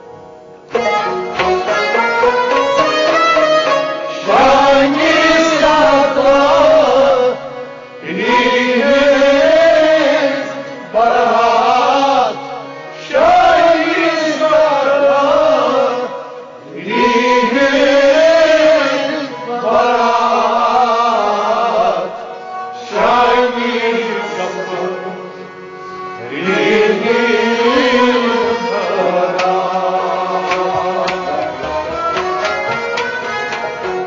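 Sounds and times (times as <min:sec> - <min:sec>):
instrumental accompaniment: 0:00.0 - 0:34.0
devotional singing: 0:04.1 - 0:34.0.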